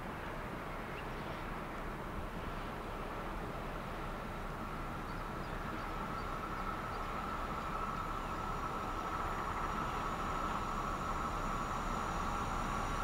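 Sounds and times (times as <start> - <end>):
locomotive engine and rail rumble: 0.0 - 13.0.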